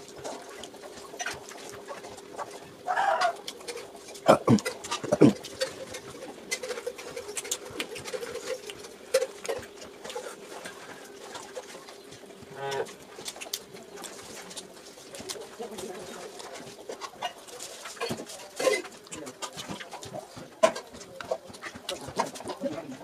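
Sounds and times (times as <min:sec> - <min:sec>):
person chewing: 0:00.0 - 0:22.1
faint steady hum: 0:00.0 - 0:23.0.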